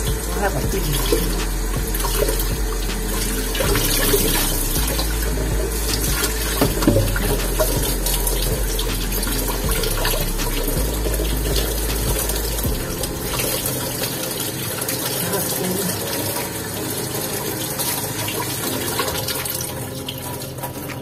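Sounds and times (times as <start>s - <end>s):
tap water splashing into sink: 0.0s - 21.0s.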